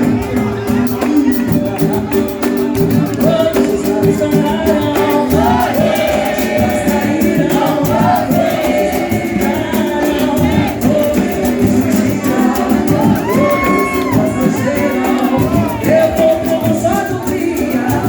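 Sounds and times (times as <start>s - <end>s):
percussion quick even beat: 0.0s - 18.0s
samba band playing: 0.0s - 18.0s
voices singing together: 0.0s - 18.0s.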